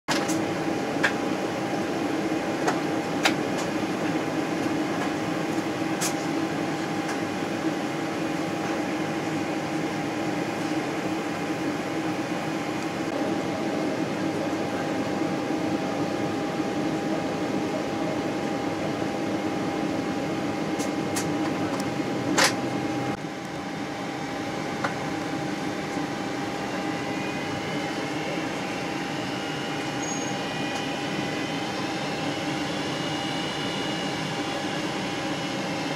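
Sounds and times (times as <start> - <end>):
constant hum: 0.1 - 35.9
jet engine drone: 0.1 - 35.9.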